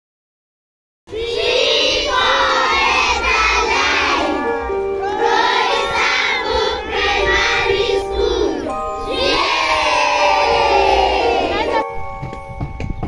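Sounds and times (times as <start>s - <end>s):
children singing and shouting: 1.1s - 12.5s.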